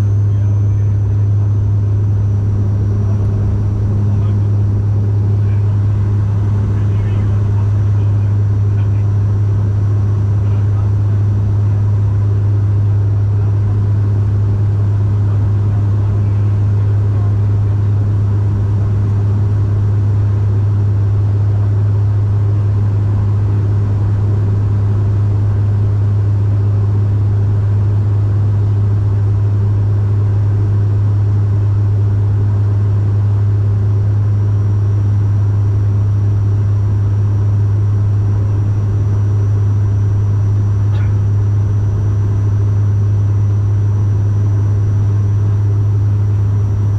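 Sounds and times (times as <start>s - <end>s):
turboprop cabin drone: 0.0s - 46.9s.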